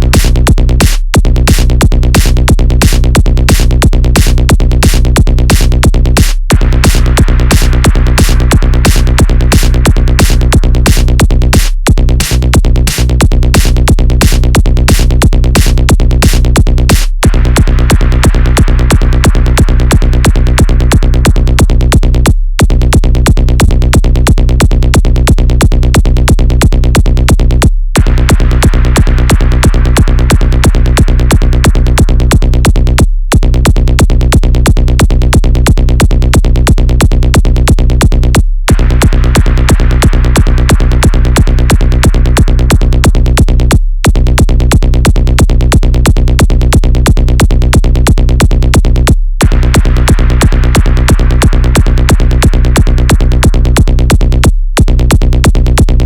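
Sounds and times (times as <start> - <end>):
droning bass: 0.0 - 56.0
drum machine beat: 0.0 - 56.0
fast sharp techno hits: 0.0 - 56.0.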